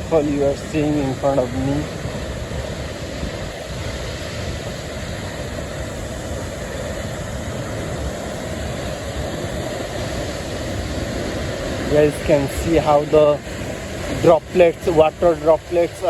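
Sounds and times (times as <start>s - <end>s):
loud rush of falling water: 0.0s - 16.0s.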